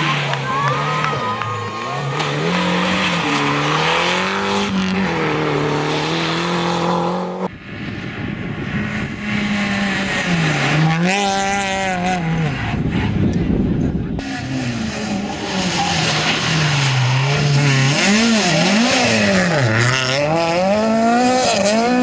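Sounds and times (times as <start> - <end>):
car engine accelerating: 0.0 - 22.0
rally car engine revving: 0.0 - 22.0.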